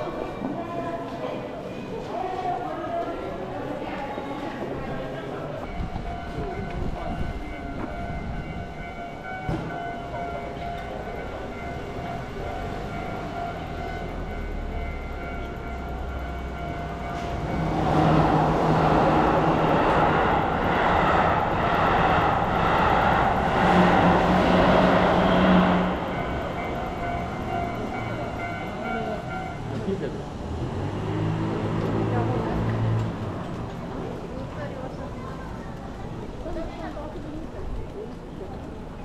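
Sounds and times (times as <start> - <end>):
train passing: 0.0 - 39.0.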